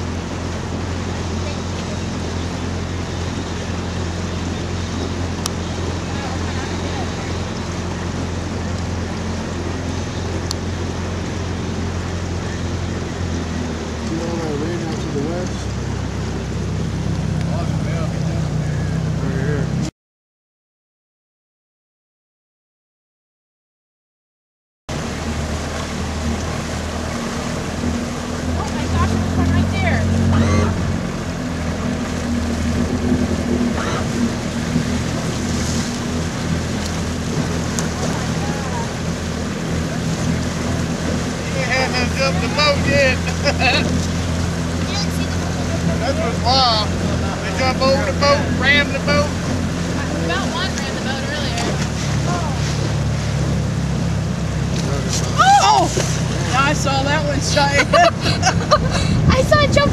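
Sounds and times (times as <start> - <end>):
outboard motor running: 0.0 - 19.9, 24.9 - 59.9
water noise: 0.0 - 19.9, 24.9 - 59.9
wind: 0.0 - 19.9, 24.9 - 59.9.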